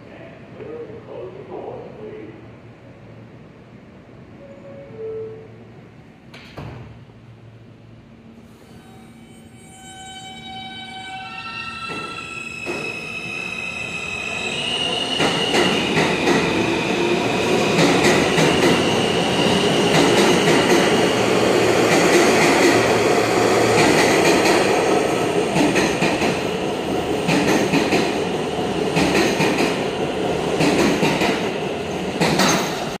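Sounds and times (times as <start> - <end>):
subway train whine: 0.0 - 33.0.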